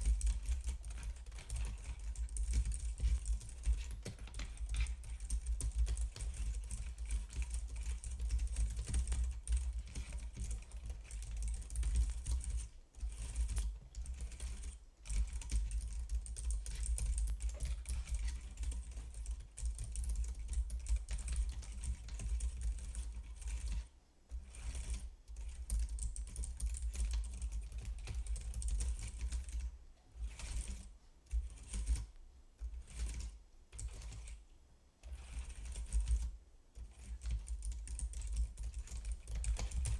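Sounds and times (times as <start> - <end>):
fast typing on keyboard: 0.0 - 29.7, 31.4 - 32.0, 32.7 - 34.4, 35.1 - 39.9.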